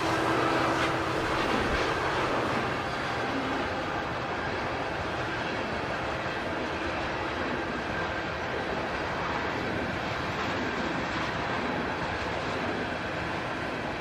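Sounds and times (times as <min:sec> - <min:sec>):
train cars rumbling on rails: 0:00.0 - 0:14.0.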